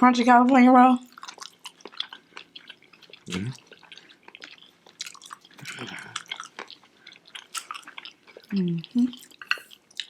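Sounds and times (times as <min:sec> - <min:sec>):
wet chewing mouth clicks: 0:01.0 - 0:10.0.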